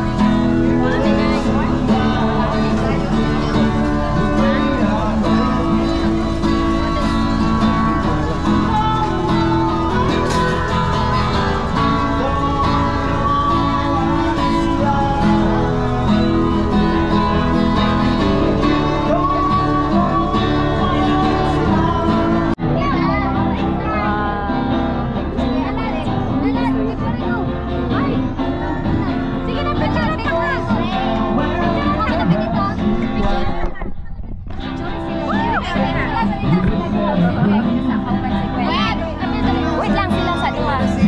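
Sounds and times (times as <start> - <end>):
plucked acoustic guitar music: 0.0 - 41.0.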